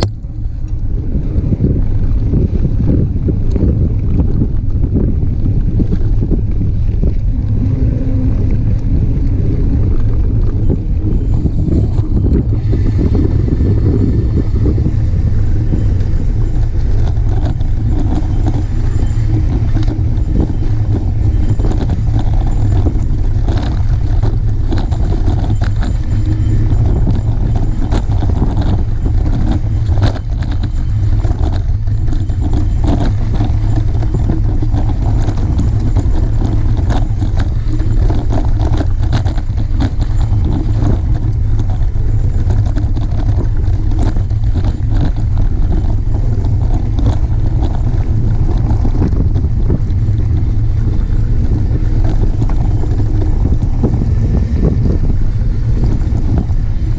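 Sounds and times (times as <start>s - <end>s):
bike clicks and rattles: 0.0s - 56.9s
wind and tyre rumble: 0.0s - 56.9s.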